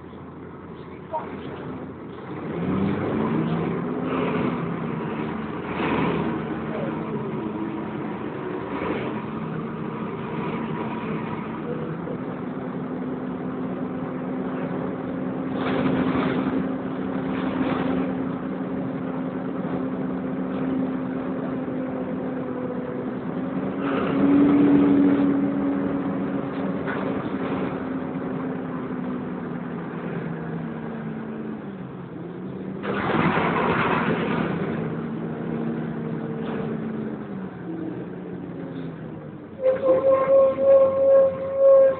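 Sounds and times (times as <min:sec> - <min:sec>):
bus diesel engine humming: 0:00.0 - 0:41.9.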